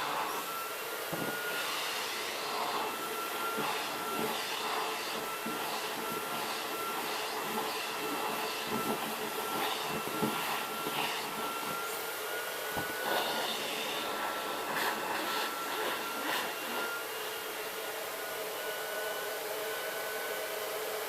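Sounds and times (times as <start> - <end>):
thin high whine: 0.0 - 17.5
vacuum cleaner hissing: 0.0 - 21.0.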